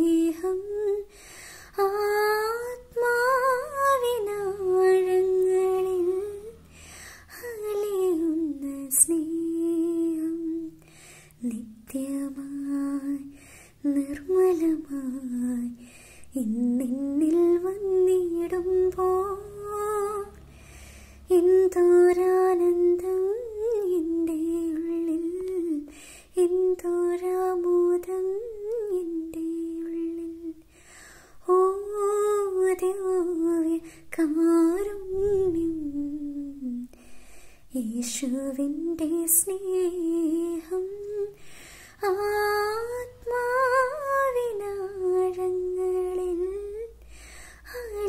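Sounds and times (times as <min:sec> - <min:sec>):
woman singing wordless melody: 0:00.0 - 0:20.5, 0:21.2 - 0:30.7, 0:31.4 - 0:47.0, 0:47.6 - 0:48.0.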